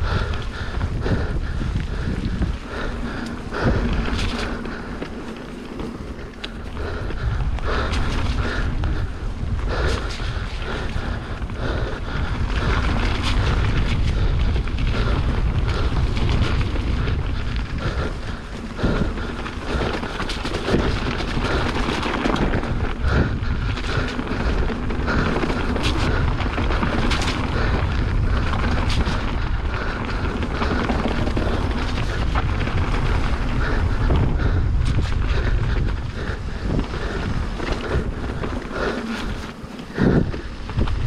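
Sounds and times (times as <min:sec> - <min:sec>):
bike rattling over bumps: 0:00.0 - 0:41.0
wind buffeting microphone: 0:00.0 - 0:41.0.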